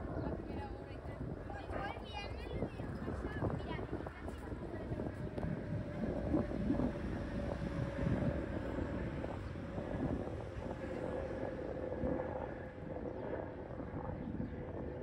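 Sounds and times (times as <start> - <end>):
distant engine hum: 0.0 - 15.0
wind buffeting microphone: 0.0 - 15.0.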